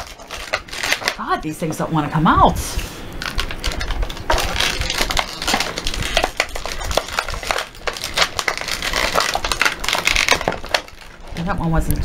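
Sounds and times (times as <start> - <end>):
plastic packaging crackling: 0.0 - 1.8, 2.8 - 12.0.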